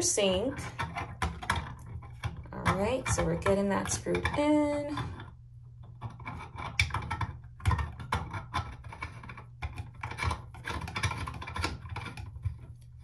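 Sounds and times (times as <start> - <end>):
threads scraping and rasping: 0.0 - 13.0.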